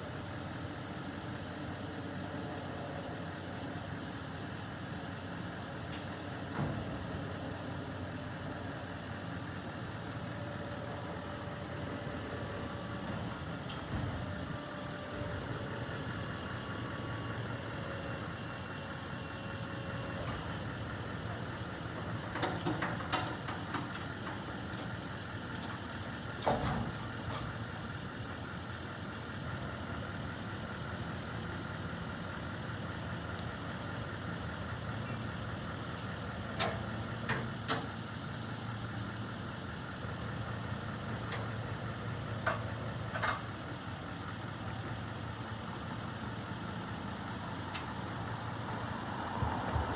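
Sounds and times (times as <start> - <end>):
garbage truck engine idling: 0.0 - 49.9.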